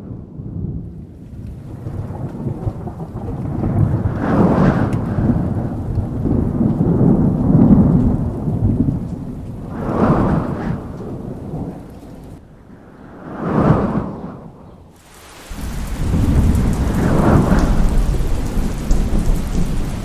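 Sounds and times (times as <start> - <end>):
rolling thunder: 0.0 - 20.0.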